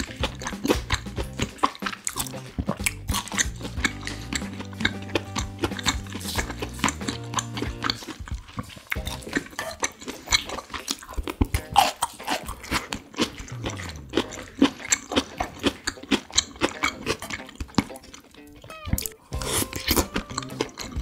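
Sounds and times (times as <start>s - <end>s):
wet chewing and mouth smacks: 0.0s - 21.0s.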